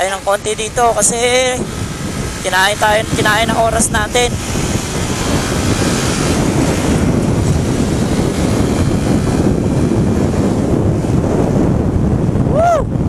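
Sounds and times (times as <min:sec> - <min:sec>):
motorcycle engine and road rumble: 0:00.0 - 0:13.0
wind buffeting microphone: 0:00.0 - 0:13.0.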